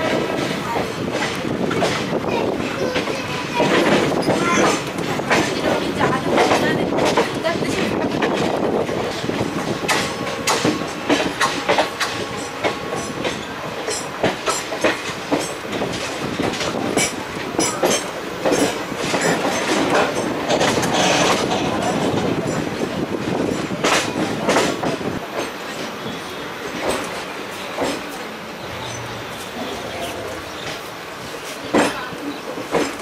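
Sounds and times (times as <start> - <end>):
train coaches rumbling: 0.0 - 33.0
wheels clicking over rail joints: 0.0 - 33.0.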